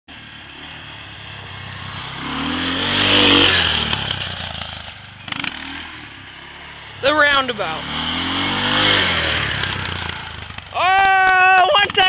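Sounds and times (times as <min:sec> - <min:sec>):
atv engine revving: 0:00.1 - 0:12.0.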